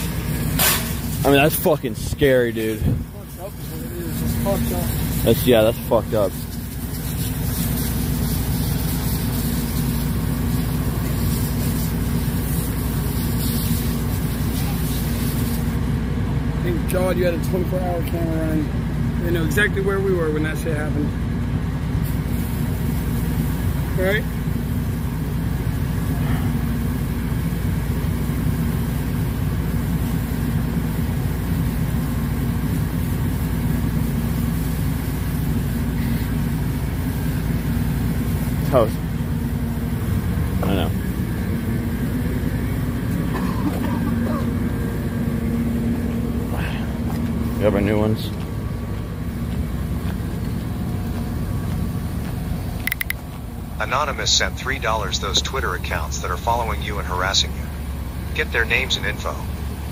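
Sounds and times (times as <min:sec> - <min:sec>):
heavy engine idling: 0:00.0 - 0:59.9.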